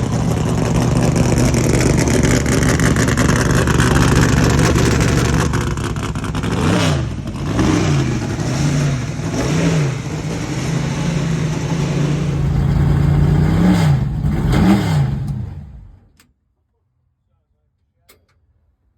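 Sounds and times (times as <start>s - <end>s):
race car engine idling loudly: 0.0s - 16.0s
engine revving: 0.0s - 16.1s.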